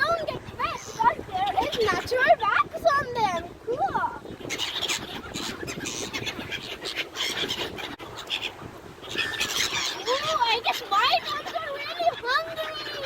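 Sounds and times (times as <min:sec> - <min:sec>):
ducks splashing in water: 0:00.0 - 0:13.0.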